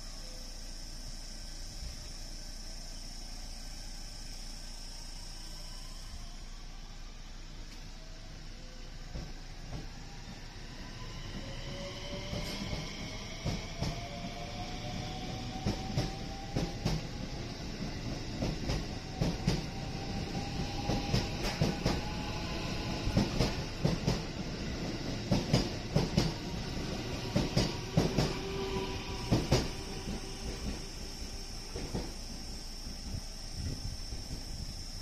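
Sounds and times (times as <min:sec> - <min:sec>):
electric train motor whine: 0:00.0 - 0:35.0.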